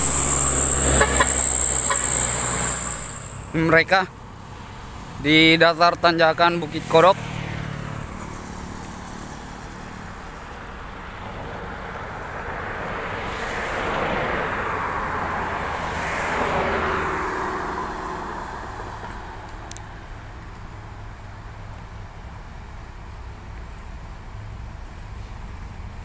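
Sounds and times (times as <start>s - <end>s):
traffic passing on highway: 0.0s - 26.0s.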